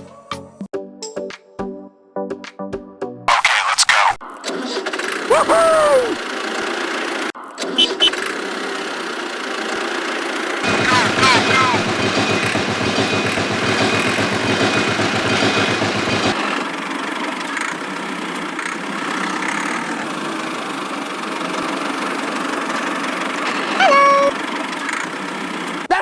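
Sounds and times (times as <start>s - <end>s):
engine running: 4.4s - 25.9s.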